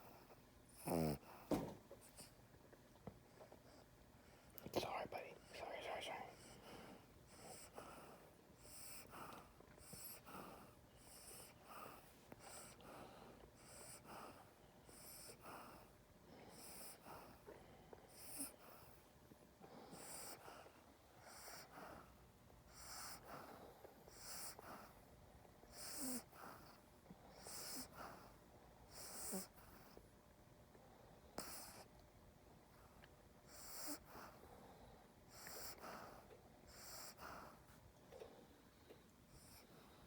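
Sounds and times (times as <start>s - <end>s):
dog snoring: 0.0s - 2.3s, 3.3s - 19.0s, 19.6s - 25.1s, 25.7s - 30.0s, 31.2s - 31.9s, 33.5s - 40.0s.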